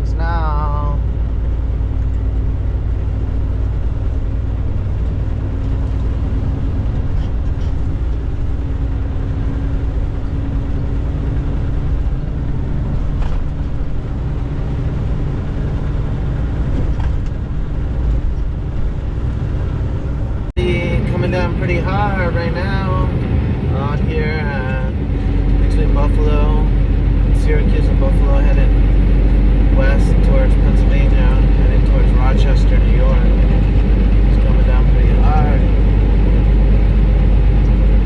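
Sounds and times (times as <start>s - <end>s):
faint constant hum: 0.0s - 38.0s
truck engine and road noise: 0.0s - 38.0s.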